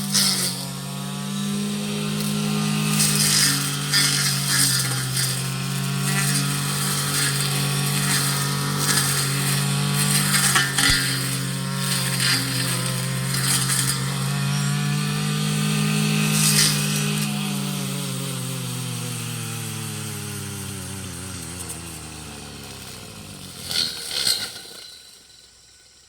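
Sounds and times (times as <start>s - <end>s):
brush cutter engine running: 0.0s - 25.8s
trimmer cutting through grass: 0.0s - 25.8s.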